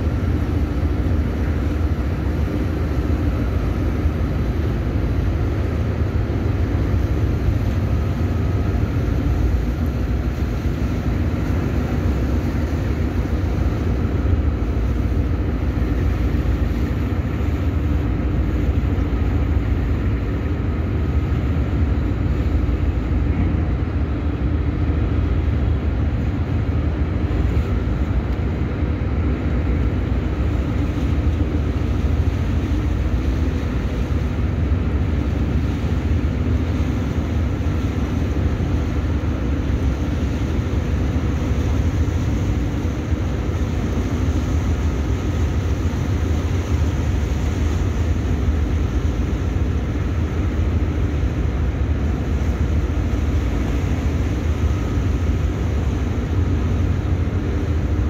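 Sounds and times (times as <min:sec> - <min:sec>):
diesel engines rumbling: 0:00.0 - 0:58.0.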